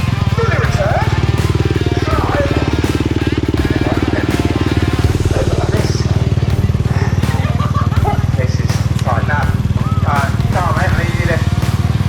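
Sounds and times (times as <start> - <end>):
quad bike engine idling: 0.0 - 12.0.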